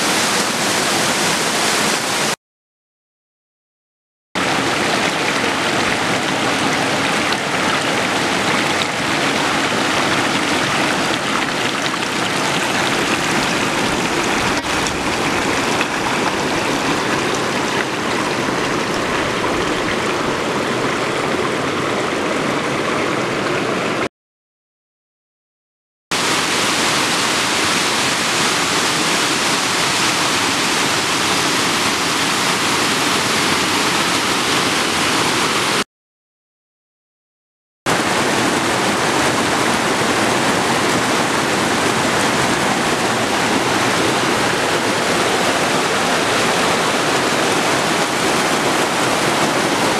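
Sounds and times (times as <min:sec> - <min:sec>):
waterfall rushing: 0:00.0 - 0:02.4, 0:04.4 - 0:24.1, 0:26.2 - 0:35.8, 0:37.9 - 0:49.9.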